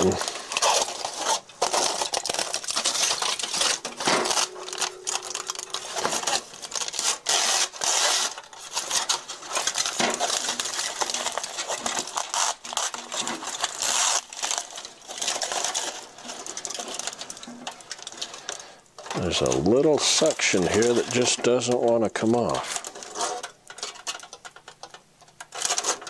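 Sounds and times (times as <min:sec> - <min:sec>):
aluminium foil crinkling: 0:00.0 - 0:26.0.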